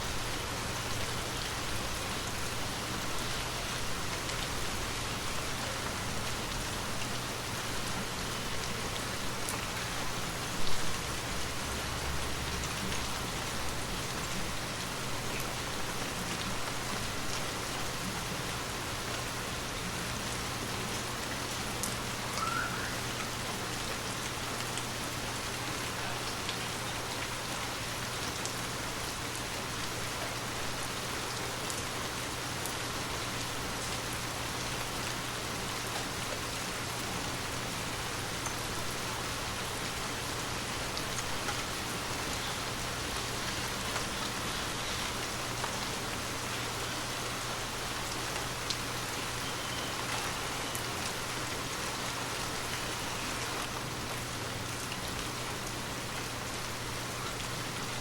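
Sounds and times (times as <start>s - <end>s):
gentle rain pattering: 0.0s - 58.0s.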